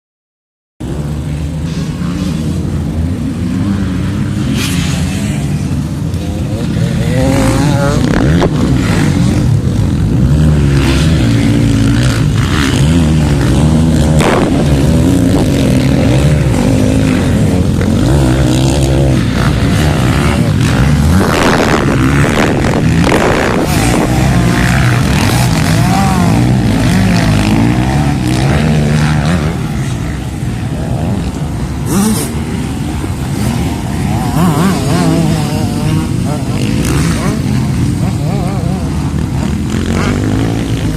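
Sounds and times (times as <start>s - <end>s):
motocross bike engines revving: 0.8s - 40.9s.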